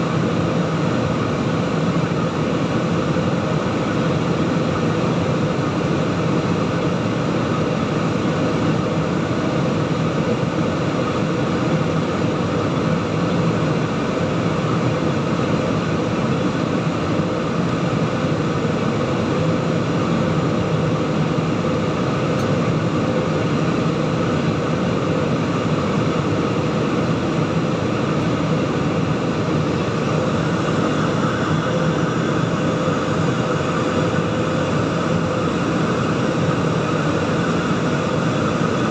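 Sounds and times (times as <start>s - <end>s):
jet airliner cabin noise: 0.0s - 38.9s.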